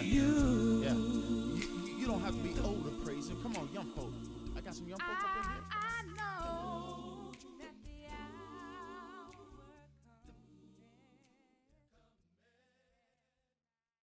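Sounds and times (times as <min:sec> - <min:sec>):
a cappella gospel singing: 0:00.0 - 0:12.9.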